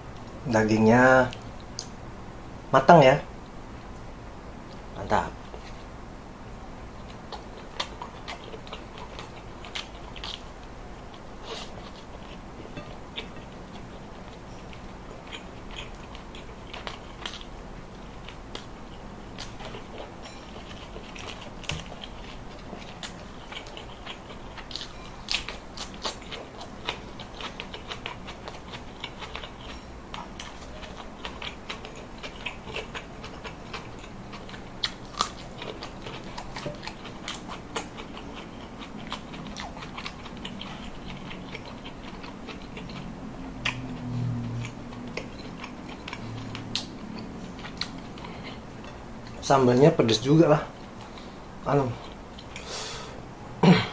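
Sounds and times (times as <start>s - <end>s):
person chewing food: 6.9s - 49.5s, 50.7s - 53.2s.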